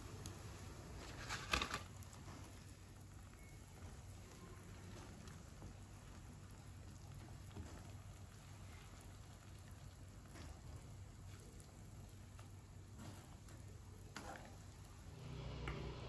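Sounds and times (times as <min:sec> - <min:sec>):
faint rain with ticking drops: 0:00.0 - 0:15.7.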